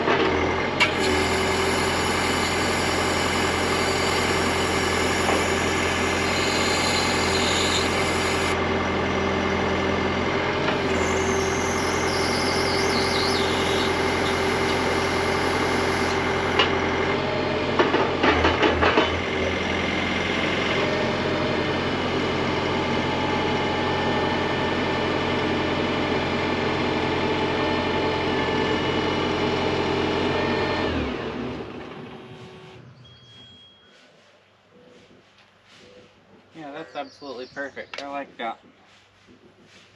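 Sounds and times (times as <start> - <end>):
diesel engine running: 0.0 - 33.0
hydraulic whine: 0.0 - 33.6.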